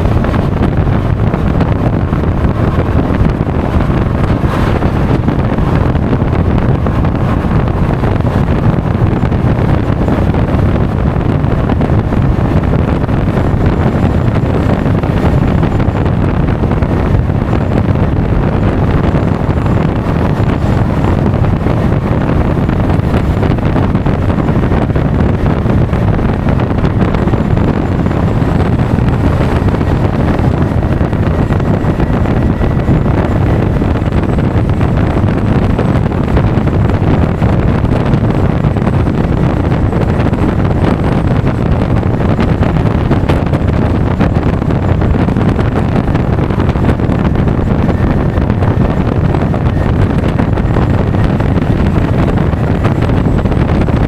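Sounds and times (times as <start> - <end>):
scooter engine and road noise: 0.0 - 54.0
wind buffeting microphone: 0.0 - 54.0.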